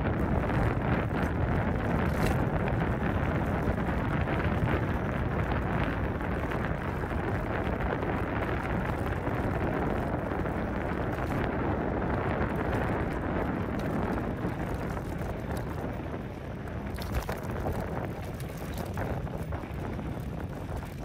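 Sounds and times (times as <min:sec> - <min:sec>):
tyres rumbling on rough road: 0:00.0 - 0:21.0
wind buffeting microphone: 0:00.0 - 0:21.0.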